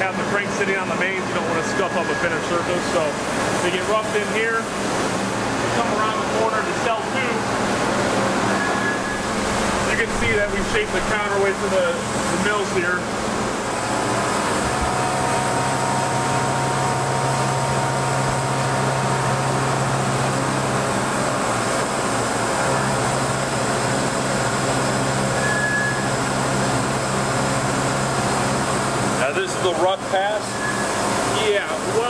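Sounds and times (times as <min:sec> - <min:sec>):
faint machine whine: 0:00.0 - 0:07.5, 0:08.3 - 0:32.0
milling machine hum: 0:00.0 - 0:32.0.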